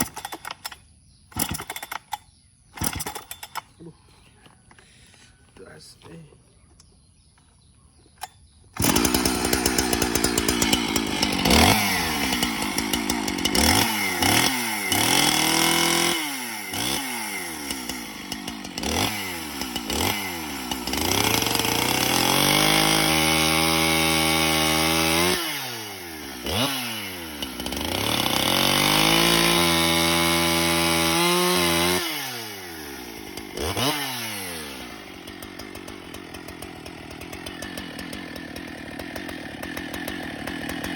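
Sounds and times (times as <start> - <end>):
chainsaw engine revving: 0.0 - 3.9, 8.7 - 40.9.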